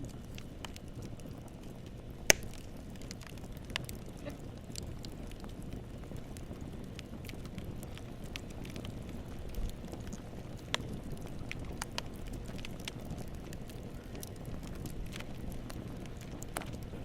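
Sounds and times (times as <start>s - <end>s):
campfire flames rumbling: 0.0s - 17.0s
wood crackling and popping: 0.0s - 17.0s.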